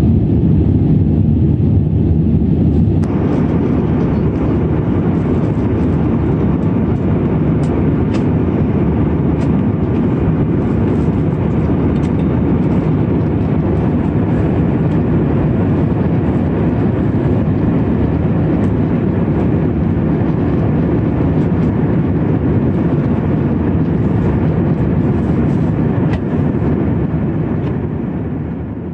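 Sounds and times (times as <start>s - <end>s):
airplane cabin engine drone: 0.0s - 28.9s.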